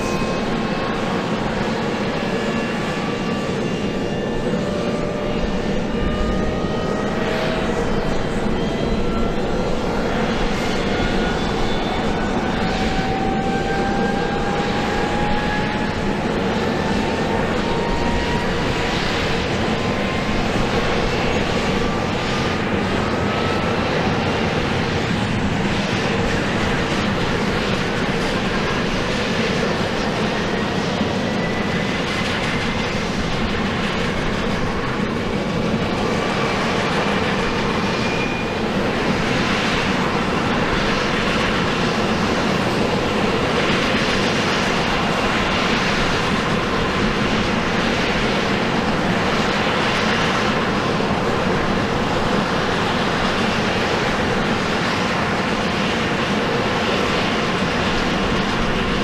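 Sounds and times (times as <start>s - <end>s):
aircraft engines rumbling: 0.0s - 59.0s.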